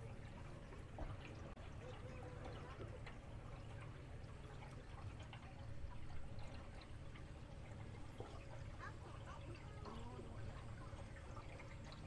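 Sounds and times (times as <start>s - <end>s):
water gurgling along boat hull: 0.0s - 12.0s.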